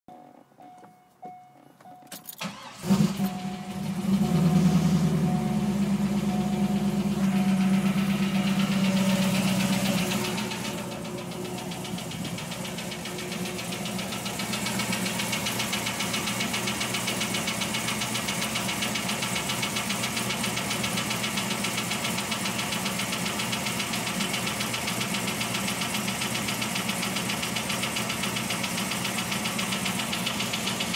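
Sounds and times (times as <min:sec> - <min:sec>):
car engine running: 0:02.4 - 0:30.9.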